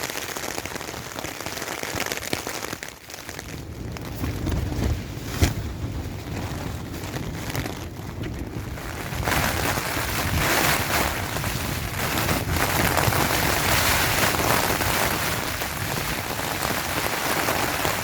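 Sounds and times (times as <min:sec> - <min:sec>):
gusting wind: 0:00.0 - 0:18.0
heavy rain on a tent: 0:00.0 - 0:18.0.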